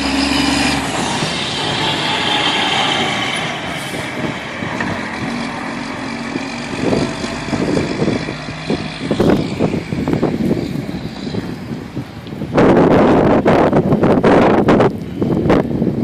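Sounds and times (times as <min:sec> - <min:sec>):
large vehicle engine: 0:00.0 - 0:16.0
wind gusting on microphone: 0:00.0 - 0:16.0.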